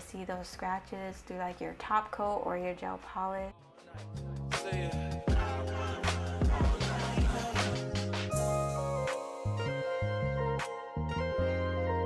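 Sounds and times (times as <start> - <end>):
instrumental background music: 0.1 - 12.0.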